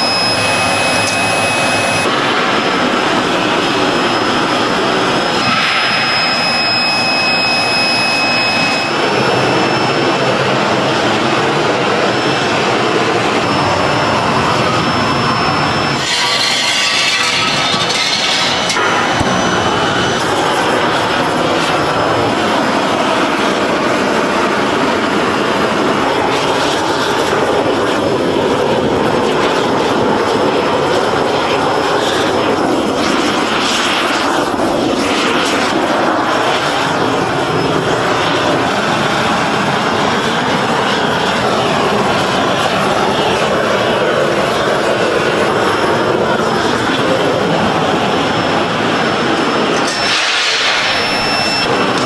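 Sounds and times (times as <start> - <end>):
factory machinery running: 0.0 - 52.0.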